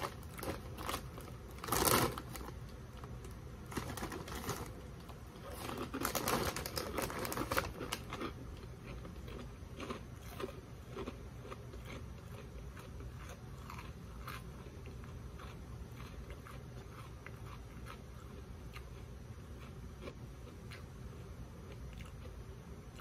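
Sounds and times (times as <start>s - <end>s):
steady low hum: 0.0s - 23.0s
person chewing crunchy snack: 3.7s - 21.0s, 21.6s - 23.0s.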